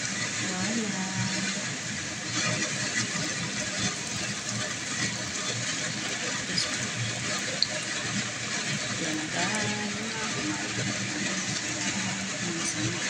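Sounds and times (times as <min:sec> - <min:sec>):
dough sizzling in oil: 0:00.0 - 0:13.0
oil crackles and pops: 0:00.0 - 0:13.0.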